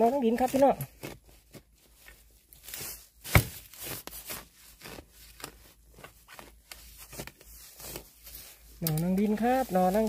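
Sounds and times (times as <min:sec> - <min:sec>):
rustling and crunching of leaves: 0:00.0 - 0:10.0.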